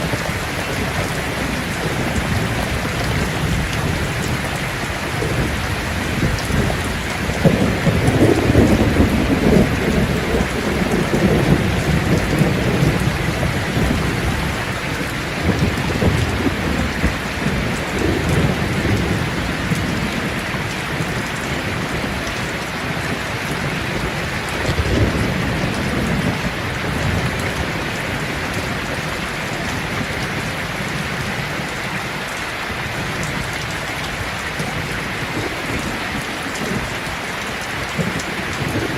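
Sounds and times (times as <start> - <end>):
rolling thunder rumbling: 0.0 - 38.9
steady rain: 0.0 - 38.9.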